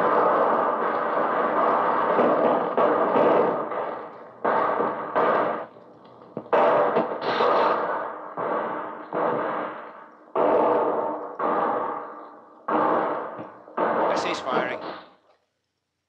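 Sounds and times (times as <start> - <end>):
grenade blast: 0.0 - 15.2
rapid rifle fire bursts: 0.0 - 15.2.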